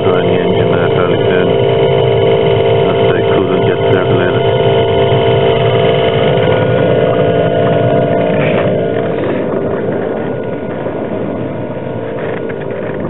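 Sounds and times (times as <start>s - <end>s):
heater burner and blower hum: 0.0s - 13.0s.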